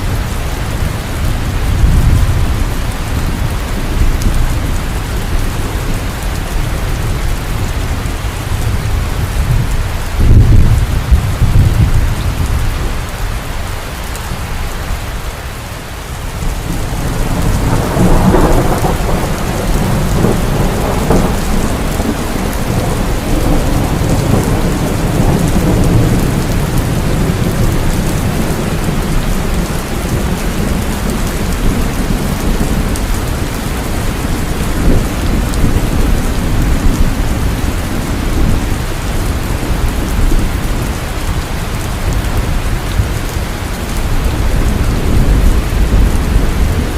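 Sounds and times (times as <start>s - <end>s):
rolling thunder: 0.0s - 13.2s, 16.3s - 46.9s
heavy rain falling: 0.0s - 46.9s.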